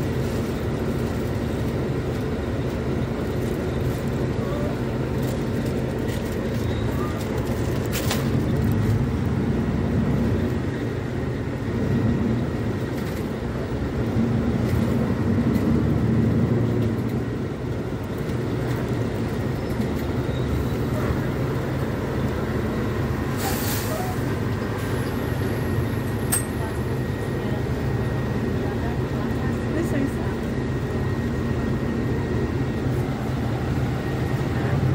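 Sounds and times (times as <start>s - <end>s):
bus engine running: 0.0s - 34.9s.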